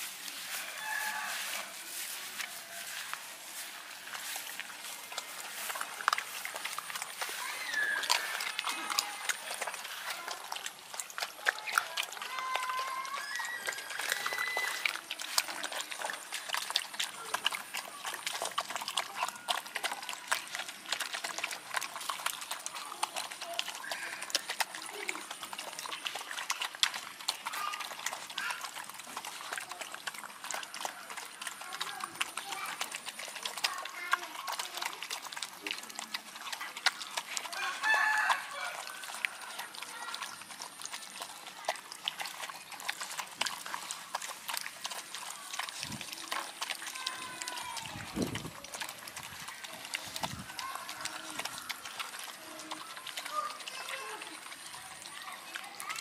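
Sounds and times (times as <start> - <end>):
dogs chewing and lapping: 0.0 - 56.0.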